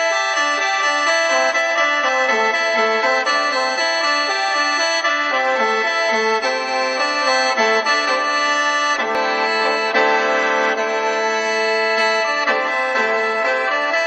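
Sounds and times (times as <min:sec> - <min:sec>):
mouth organ melody over drone: 0:00.0 - 0:14.0.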